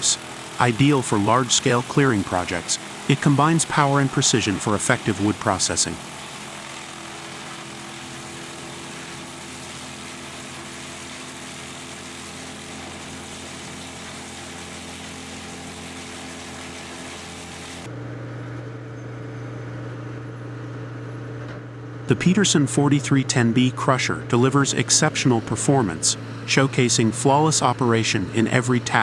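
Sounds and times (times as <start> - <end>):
wood chipper engine running: 0.0 - 18.4, 23.1 - 29.0.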